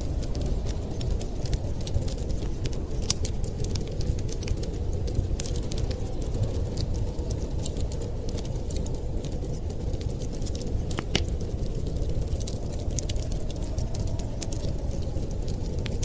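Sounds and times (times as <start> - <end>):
fireplace crackling: 0.0 - 16.0
sharp snaps of fire: 0.0 - 16.0.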